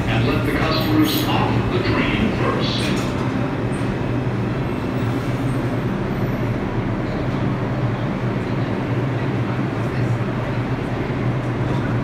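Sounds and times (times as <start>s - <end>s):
low hum and rumble of train cars: 0.0s - 12.0s
subway train slowing to a stop: 0.0s - 12.0s.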